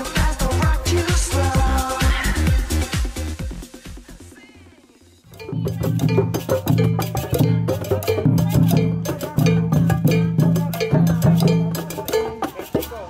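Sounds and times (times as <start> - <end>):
upbeat music with percussion: 0.0 - 13.0.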